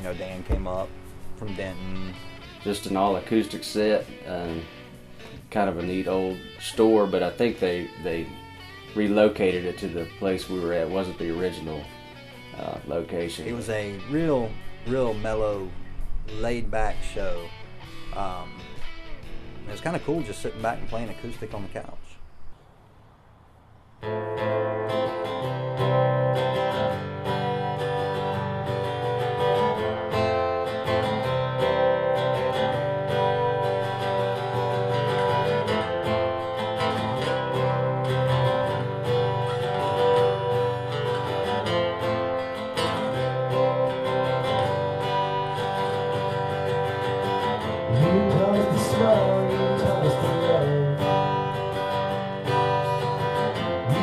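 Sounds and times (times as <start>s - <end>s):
acoustic guitar strumming chords: 0.0s - 22.0s, 24.0s - 54.0s
gliding guitar melody: 0.0s - 22.1s, 23.9s - 54.0s.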